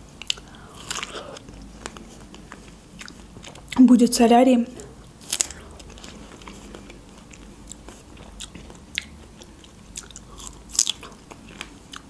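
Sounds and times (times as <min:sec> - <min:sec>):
chewing: 0:00.2 - 0:03.8, 0:04.8 - 0:12.0.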